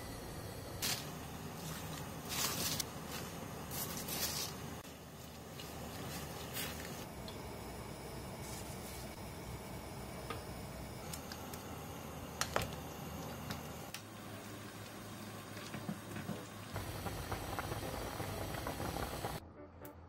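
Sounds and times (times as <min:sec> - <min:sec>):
soup boiling and bubbling: 0:00.0 - 0:19.4.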